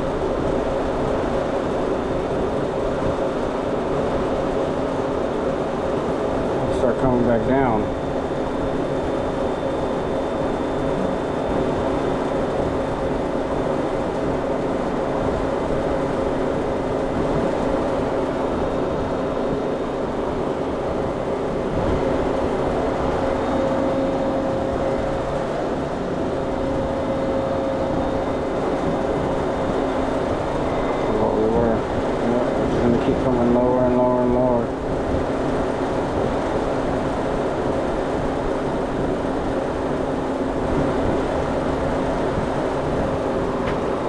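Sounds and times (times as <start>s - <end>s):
refrigerator compressor hum: 0.0s - 44.0s.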